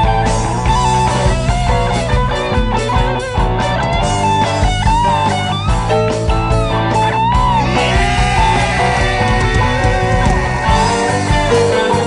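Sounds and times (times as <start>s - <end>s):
lead guitar bending notes: 0.0s - 12.0s
rock band music: 0.0s - 12.0s.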